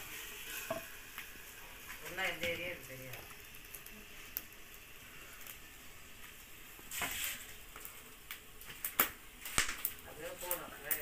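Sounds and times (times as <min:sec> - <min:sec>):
vegetables sizzling in a pot: 0:00.0 - 0:11.0
wood fire crackles: 0:00.0 - 0:11.0.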